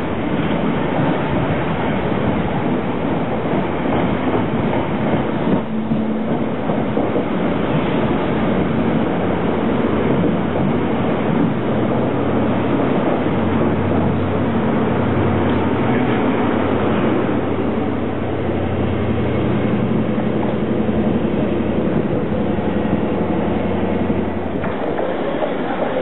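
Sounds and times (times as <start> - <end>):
low engine hum: 0.0 - 26.0
passenger train running: 0.0 - 26.0.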